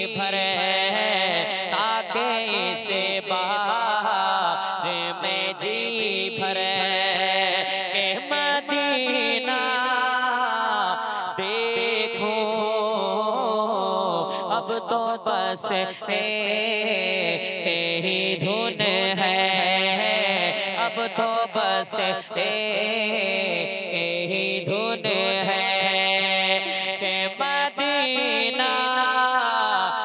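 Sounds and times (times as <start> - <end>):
person singing into a microphone: 0.0 - 30.0.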